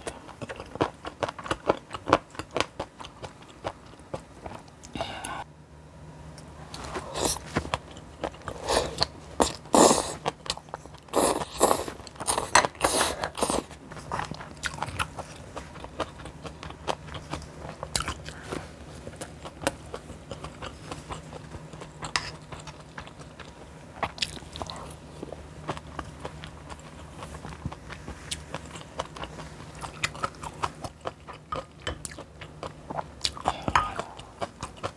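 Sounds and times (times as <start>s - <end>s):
crunching and chewing: 0.0s - 5.1s, 6.7s - 34.9s.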